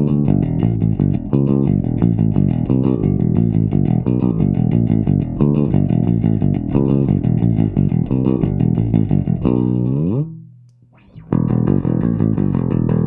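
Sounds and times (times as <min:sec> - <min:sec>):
electric bass picking low notes: 0:00.0 - 0:13.0.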